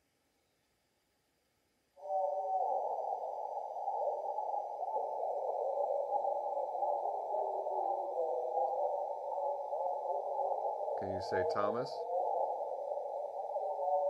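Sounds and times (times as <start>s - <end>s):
garbled radio warble: 2.0s - 14.0s.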